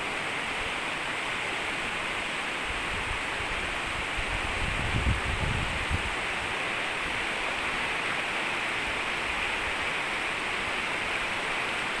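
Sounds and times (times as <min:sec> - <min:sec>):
stream rippling over rocks: 0:00.0 - 0:12.0.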